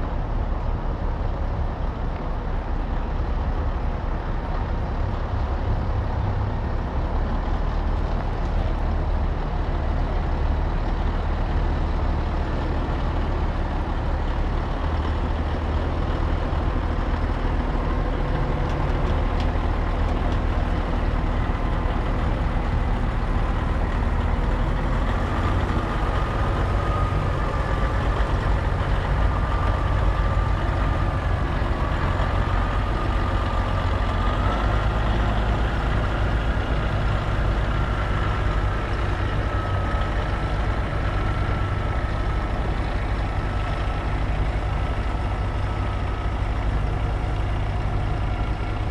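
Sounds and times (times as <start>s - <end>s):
truck diesel engine idling: 0.0s - 48.9s.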